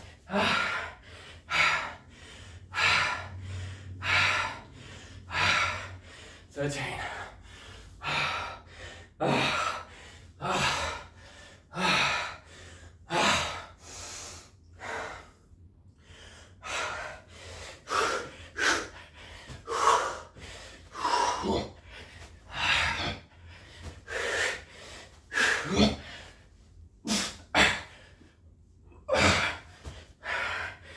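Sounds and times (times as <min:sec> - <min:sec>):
man breathing hard: 0:00.0 - 0:30.9.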